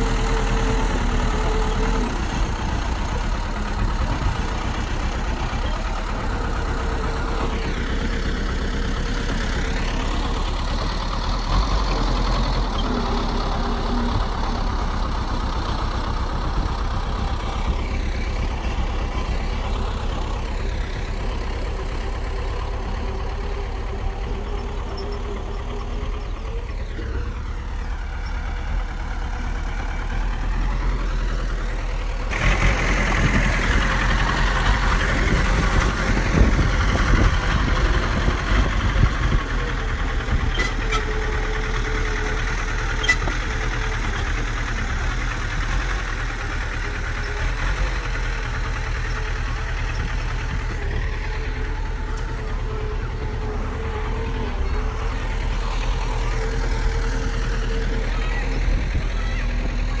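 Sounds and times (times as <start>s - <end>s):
bulldozer diesel engine: 0.0s - 60.0s.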